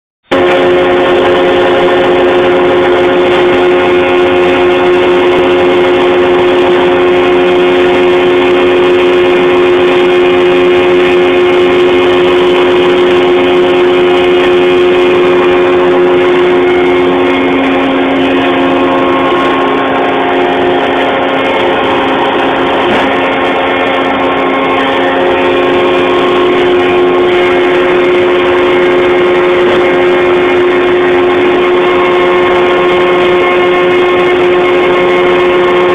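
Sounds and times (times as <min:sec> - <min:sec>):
drilling rig droning hum: 0:00.2 - 0:35.9.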